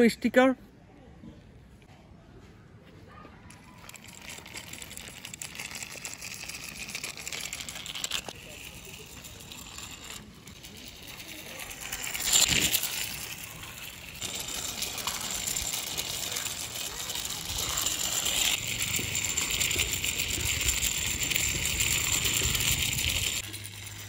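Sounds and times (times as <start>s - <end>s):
plastic toy wheels scraping concrete: 3.5s - 24.0s.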